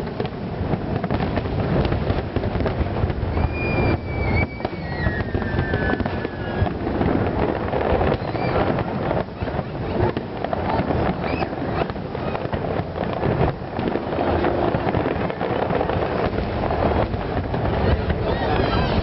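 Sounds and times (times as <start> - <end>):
fireworks popping and crackling: 0.0 - 19.0
wind noise on microphone: 0.0 - 19.0.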